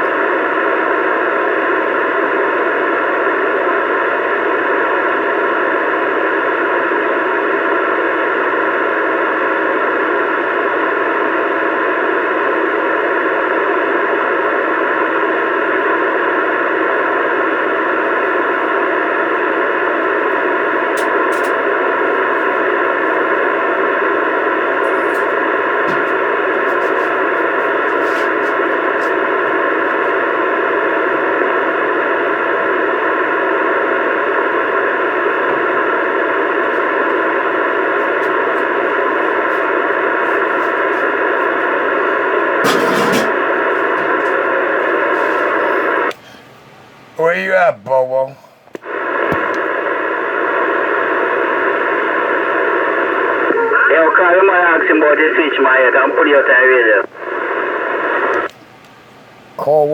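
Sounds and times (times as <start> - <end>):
radio static hiss: 0.0 - 58.6, 59.6 - 59.9.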